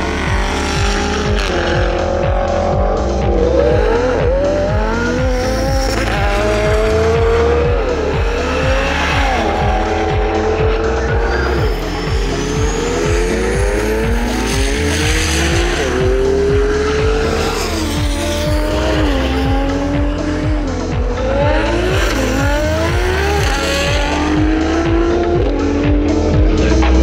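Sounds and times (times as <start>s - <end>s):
car engine accelerating hard: 0.0s - 27.0s
music with a steady beat: 0.0s - 27.0s.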